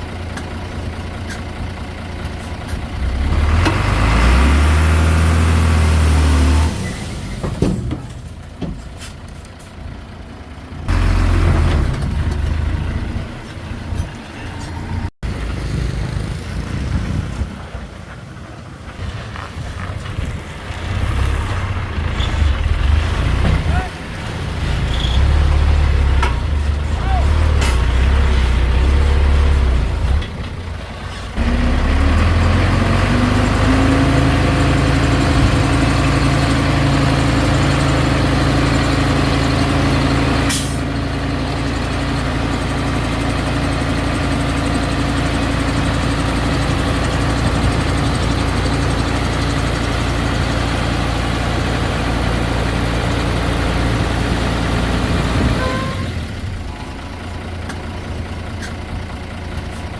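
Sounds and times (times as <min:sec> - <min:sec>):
heavy diesel engine working: 0:00.0 - 0:59.9.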